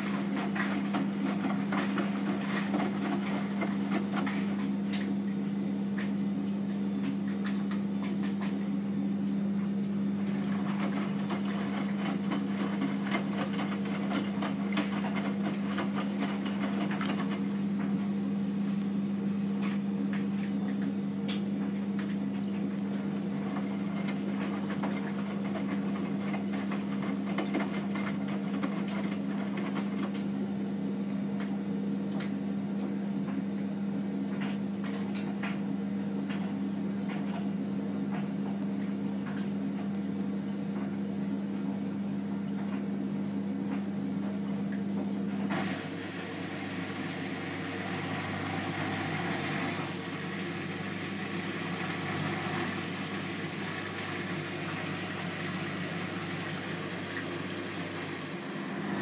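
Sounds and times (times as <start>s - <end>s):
washing machine hum: 0.0s - 59.0s.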